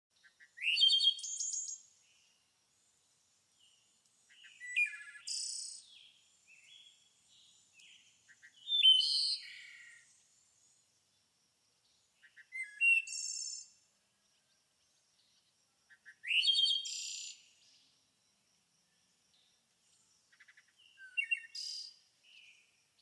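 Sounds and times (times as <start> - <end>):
songbird singing: 0.1 - 23.0.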